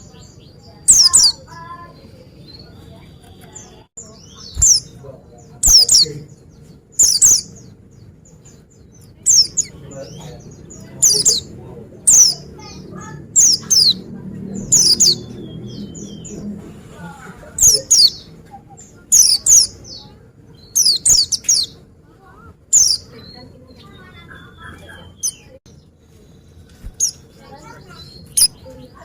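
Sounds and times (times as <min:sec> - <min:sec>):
bird chirping high: 0:00.0 - 0:16.7, 0:17.5 - 0:25.8, 0:26.7 - 0:29.0
soft bird twittering: 0:00.0 - 0:29.0.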